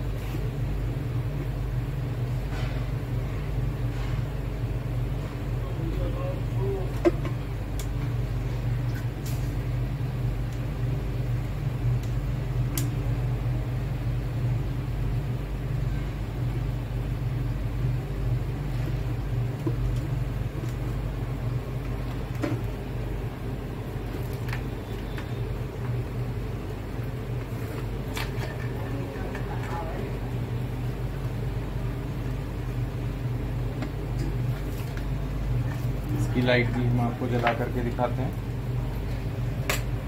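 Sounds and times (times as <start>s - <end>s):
aquarium air pump humming: 0.0s - 40.0s.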